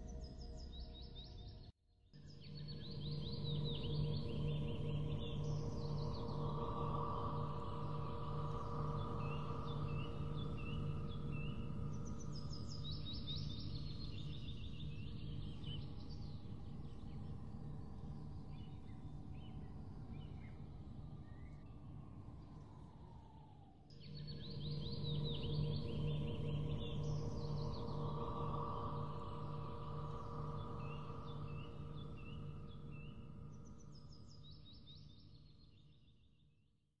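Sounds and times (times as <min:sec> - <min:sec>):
low hum and held tones: 0:02.2 - 0:36.4.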